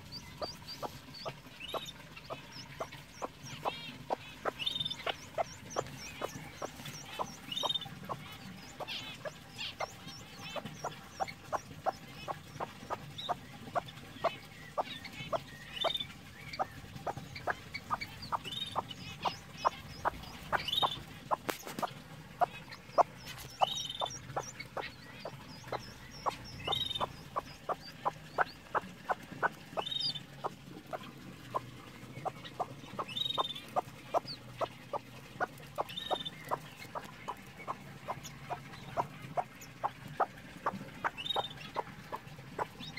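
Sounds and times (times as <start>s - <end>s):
chicks peeping: 0.0s - 42.9s
hen clucking softly: 0.0s - 42.9s.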